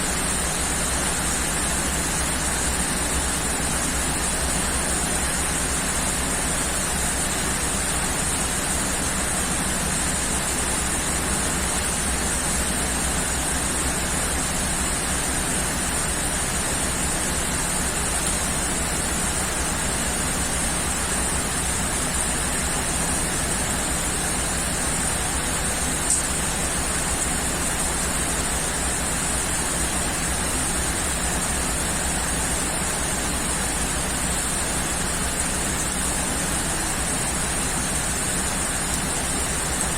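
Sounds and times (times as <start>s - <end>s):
heavy rainfall: 0.1s - 39.9s.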